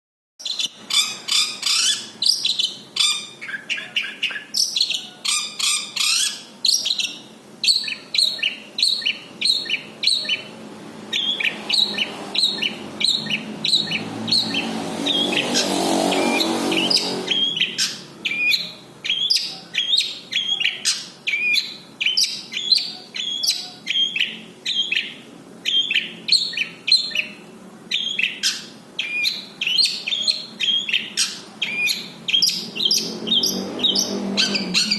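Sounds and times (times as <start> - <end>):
bird singing fast chirps and trills: 0.4 - 34.9.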